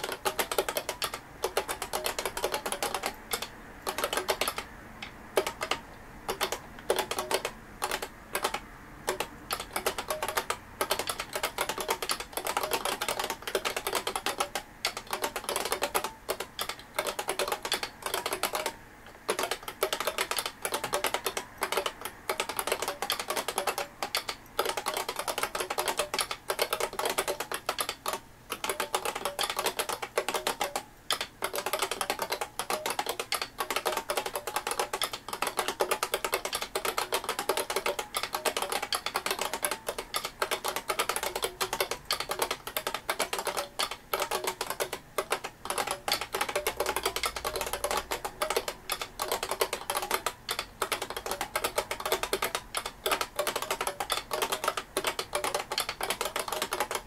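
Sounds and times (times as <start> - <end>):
fast keyboard typing clicks: 0.0 - 57.0.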